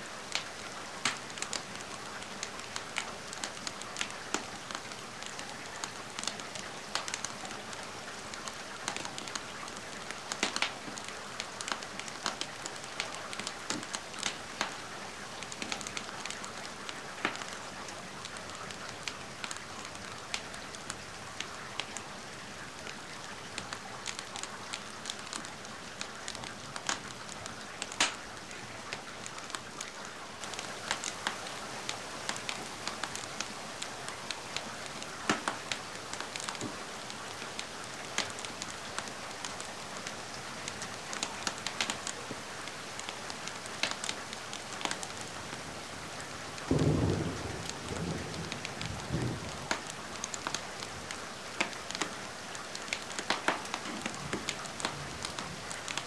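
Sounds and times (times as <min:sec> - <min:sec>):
steady rain: 0:00.0 - 0:56.0
fireplace crackles: 0:00.2 - 0:22.0, 0:22.8 - 0:56.0.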